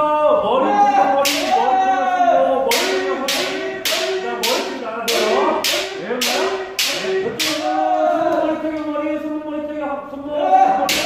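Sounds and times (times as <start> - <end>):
people shouting: 0.0 - 9.0, 10.2 - 11.0.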